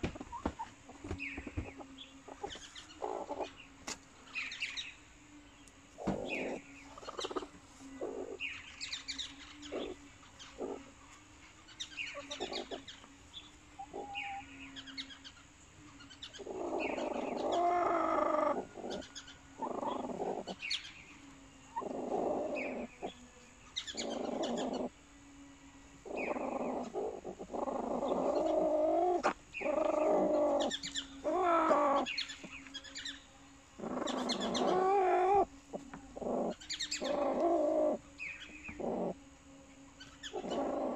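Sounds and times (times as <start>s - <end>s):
hens clucking and calling: 0.0s - 4.1s, 6.0s - 25.0s, 25.8s - 32.8s, 33.7s - 39.2s, 40.0s - 40.9s.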